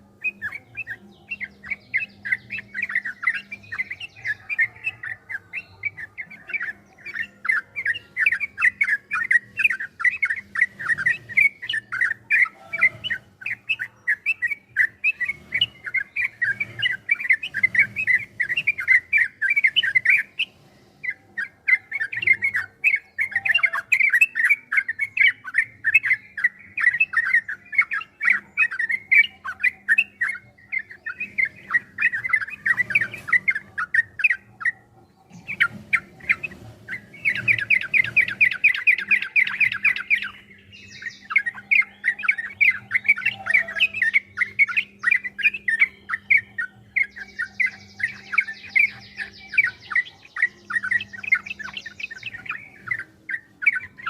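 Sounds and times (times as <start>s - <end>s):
bulbul singing rapid chattering song: 0.0s - 54.0s.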